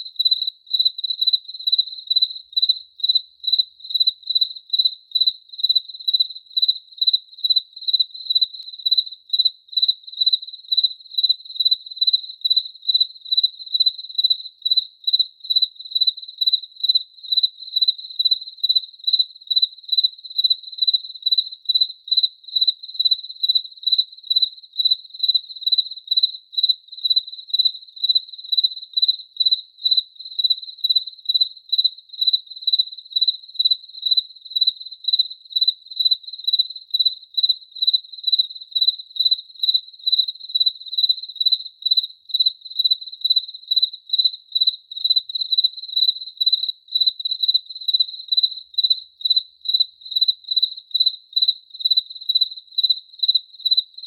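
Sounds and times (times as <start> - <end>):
cricket chirping: 0.0 - 54.0.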